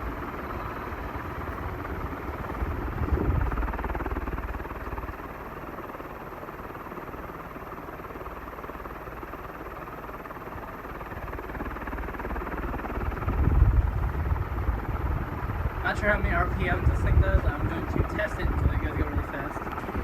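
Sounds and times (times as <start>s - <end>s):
ceiling fan rushing air: 0.0s - 20.0s.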